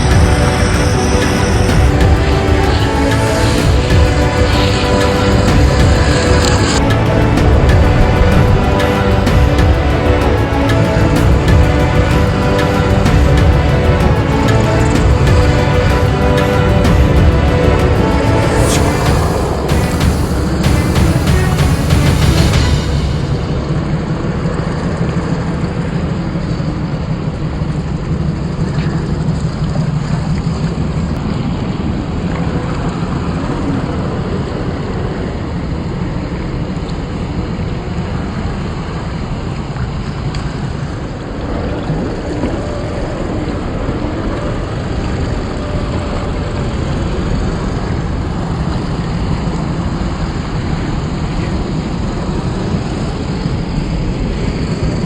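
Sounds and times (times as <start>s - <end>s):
electronic engine sound drone: 0.0s - 55.0s
rushing water: 0.0s - 55.0s.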